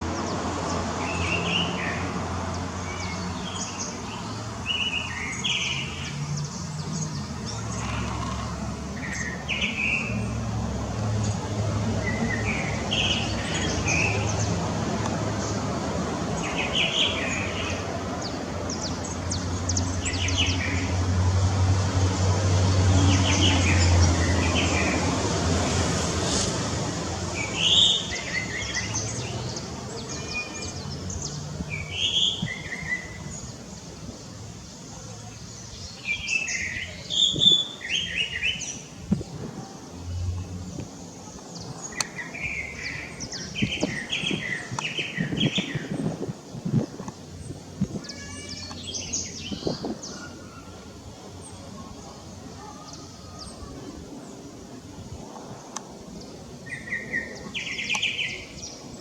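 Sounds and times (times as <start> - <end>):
small birds chirping: 0.0 - 21.1, 27.2 - 54.6, 55.5 - 59.0.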